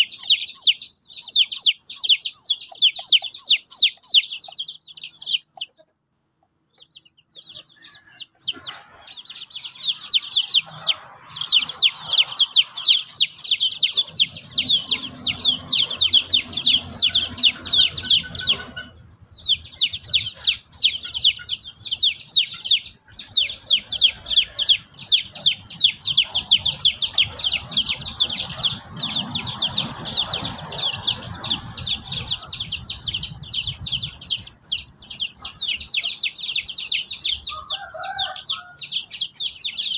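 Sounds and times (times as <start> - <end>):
young chickens peeping: 0.0 - 39.9.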